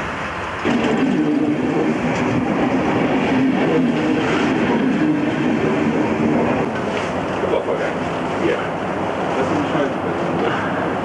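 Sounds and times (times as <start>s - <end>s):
train rolling on rails: 0.0s - 11.0s.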